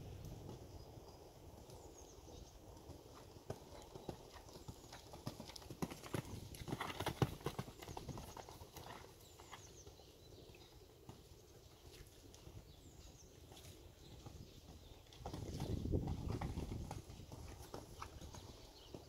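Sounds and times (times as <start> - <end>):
horse hoofbeats on sand: 0.0 - 19.0.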